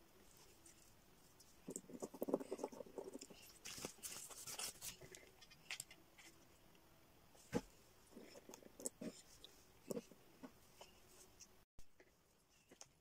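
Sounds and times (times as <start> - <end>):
crackly rustling of craft materials: 0.0 - 13.0.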